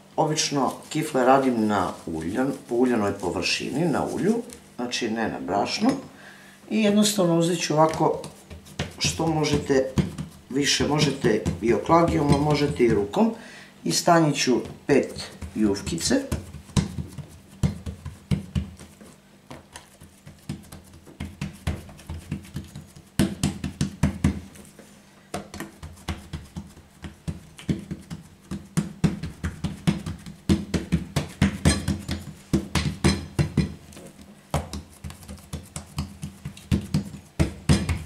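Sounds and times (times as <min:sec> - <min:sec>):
hands patting dough: 0:00.3 - 0:04.6, 0:07.3 - 0:13.3, 0:14.0 - 0:38.0.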